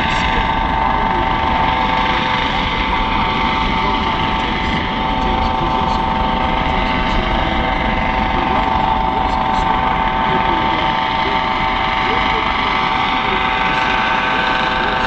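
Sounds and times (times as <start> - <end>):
helicopter rotor noise: 0.0 - 15.0
helicopter turbine whine: 0.0 - 15.0.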